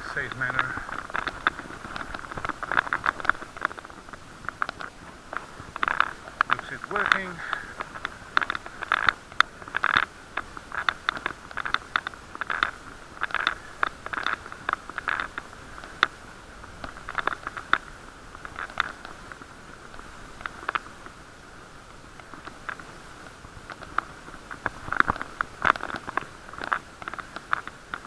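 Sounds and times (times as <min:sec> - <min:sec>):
muffled riding hiss: 0:00.0 - 0:28.0.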